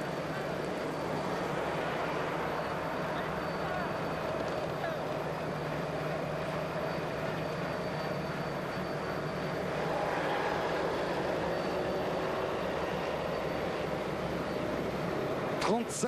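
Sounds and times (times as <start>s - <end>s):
race vehicle engines droning: 0.0s - 16.0s.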